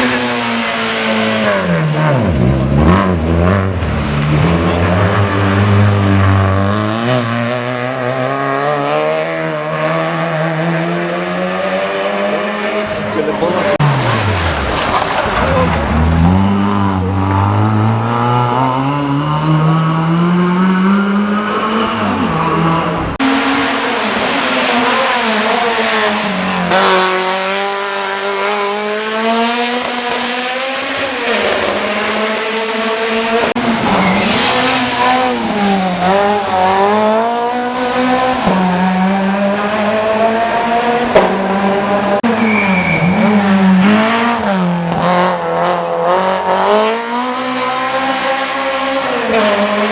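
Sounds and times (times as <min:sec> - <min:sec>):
race car engine at full throttle: 0:00.0 - 0:49.9.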